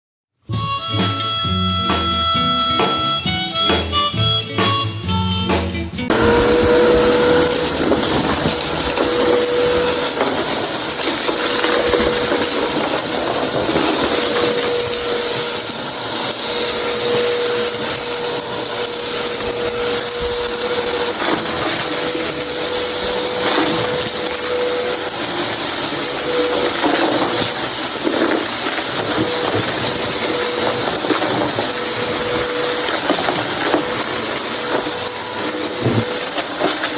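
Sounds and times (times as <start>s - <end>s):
vacuum cleaner running: 6.1s - 36.9s.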